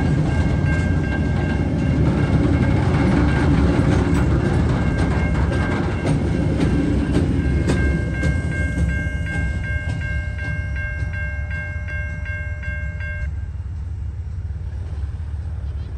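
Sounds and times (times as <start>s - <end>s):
level crossing warning bell: 0.0s - 14.8s
train wagon rattling: 0.0s - 15.9s.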